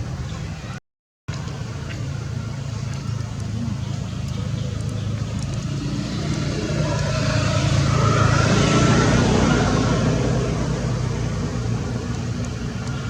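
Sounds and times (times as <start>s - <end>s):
vehicle engine running: 1.3s - 13.0s.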